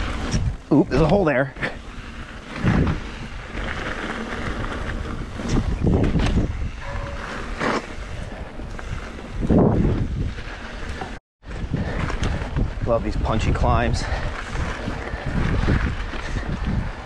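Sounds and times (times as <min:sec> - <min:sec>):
wind rushing over microphone: 0:00.0 - 0:01.2, 0:01.8 - 0:17.0
tyres rolling on dirt trail: 0:00.0 - 0:17.0.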